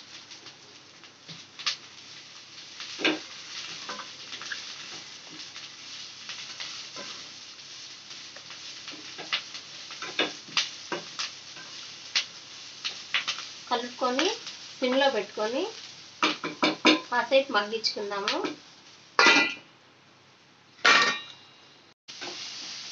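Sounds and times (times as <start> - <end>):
greens sizzling in hot oil: 0.0 - 19.7, 22.1 - 22.9.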